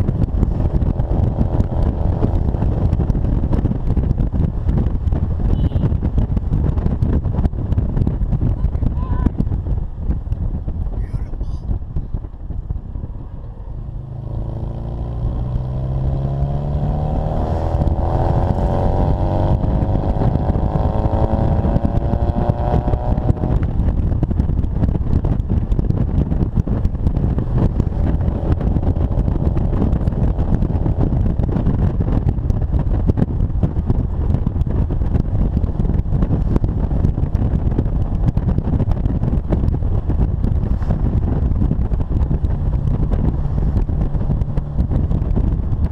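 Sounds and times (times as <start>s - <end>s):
car engine exhaust accelerating: 0.0s - 45.9s.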